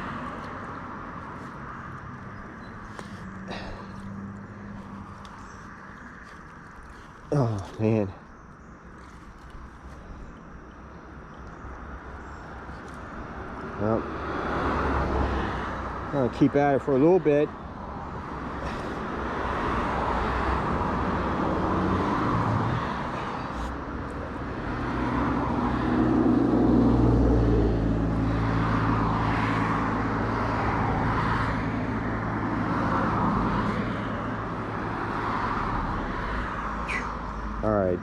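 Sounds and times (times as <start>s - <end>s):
motor vehicles passing: 0.0s - 38.0s.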